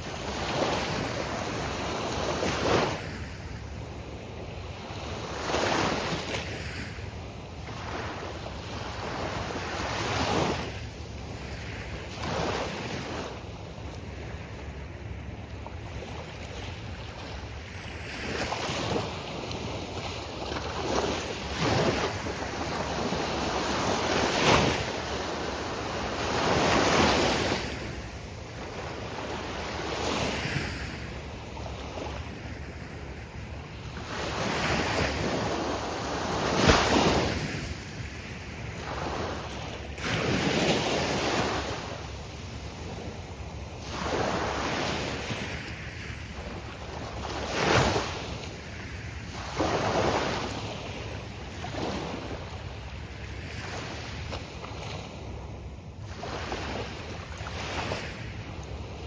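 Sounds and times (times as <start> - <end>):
ocean waves breaking: 0.0 - 13.4, 14.1 - 58.3.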